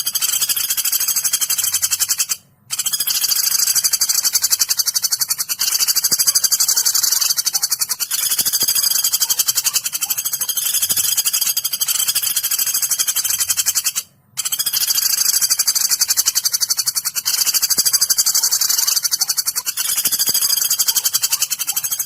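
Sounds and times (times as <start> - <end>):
woodpecker chattering trill: 0.0 - 22.0.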